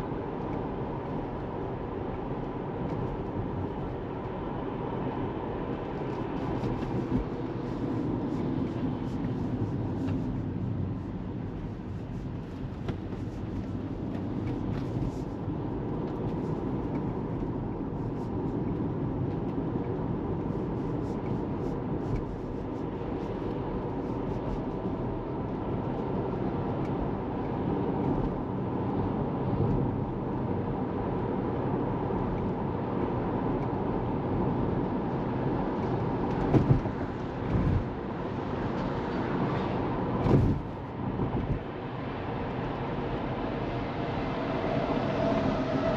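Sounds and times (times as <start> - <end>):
road and tyre rumble: 0.0 - 45.9.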